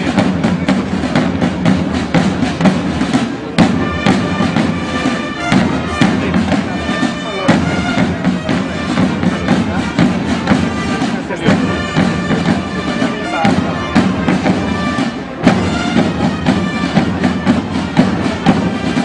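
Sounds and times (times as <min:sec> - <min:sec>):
field drums marching rhythm: 0:00.0 - 0:19.0
wind instrument held notes: 0:00.0 - 0:19.0.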